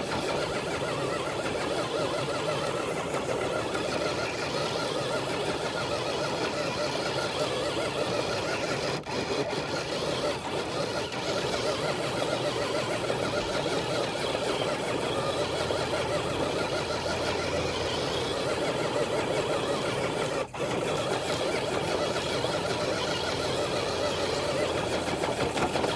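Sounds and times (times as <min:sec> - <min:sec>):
electric motor whining: 0:00.0 - 0:25.9.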